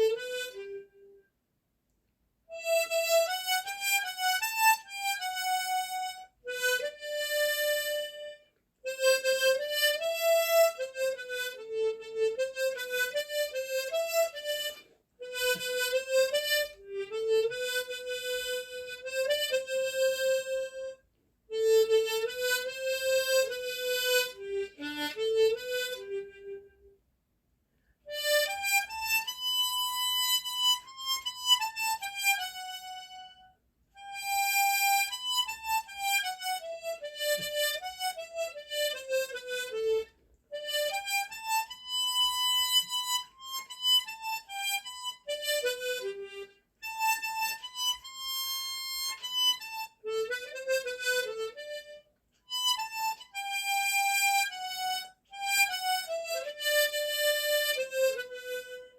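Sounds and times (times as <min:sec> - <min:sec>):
tremolo harmonica melody: 0:00.0 - 0:01.4, 0:02.5 - 0:27.1, 0:27.7 - 0:58.9.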